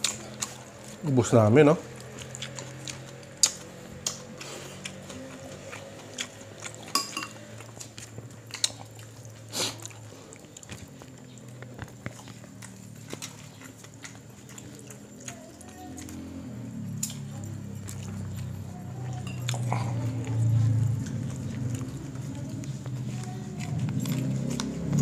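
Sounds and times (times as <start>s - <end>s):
chewing and lip smacks: 0.0s - 1.2s, 1.8s - 25.0s
faint low hum: 0.0s - 25.0s.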